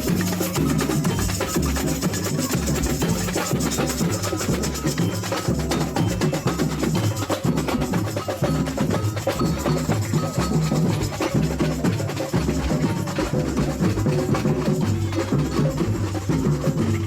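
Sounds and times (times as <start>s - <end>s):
samba music: 0.0s - 17.0s.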